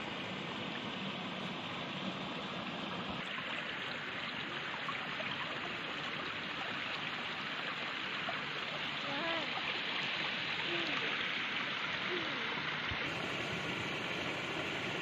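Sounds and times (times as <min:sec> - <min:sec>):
stream running water: 0:00.0 - 0:15.0.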